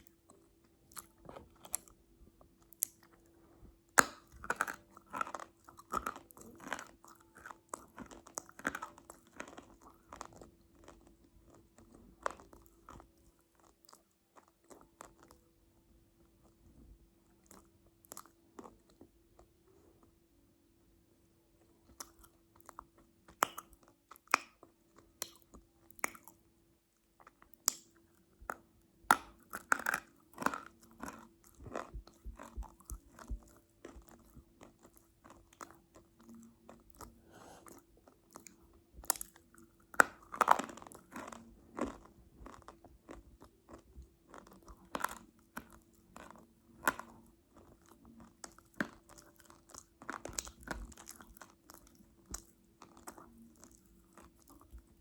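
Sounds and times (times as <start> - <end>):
chewing crunchy food: 0.0 - 20.2, 21.6 - 55.0
faint steady hum: 0.0 - 55.0.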